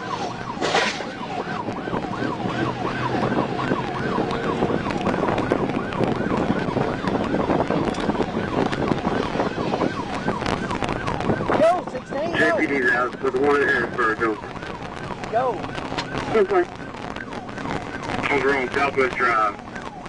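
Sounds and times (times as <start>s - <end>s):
car road noise: 0.0s - 20.0s
police siren yelping: 0.0s - 20.0s.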